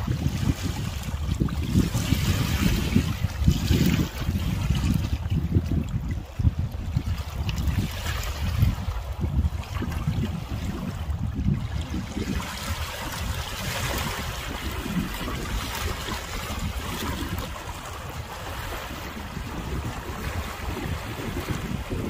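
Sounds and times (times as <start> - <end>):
waves lapping over stones: 0.0 - 22.0
wind buffeting microphone: 0.0 - 22.0.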